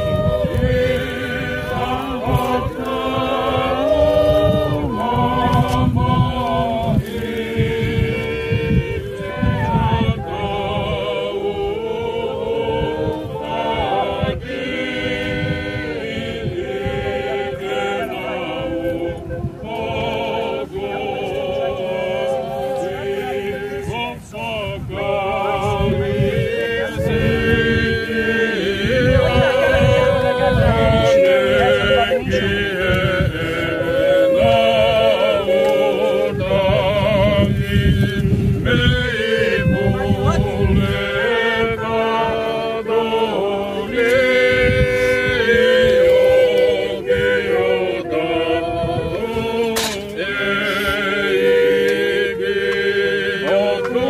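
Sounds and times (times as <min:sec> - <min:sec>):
group singing in harmony: 0:00.0 - 0:54.0.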